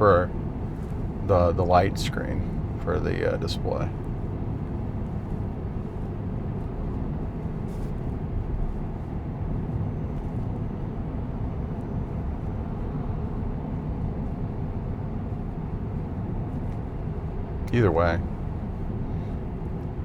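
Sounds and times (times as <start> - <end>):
road and tyre rumble: 0.0 - 20.0.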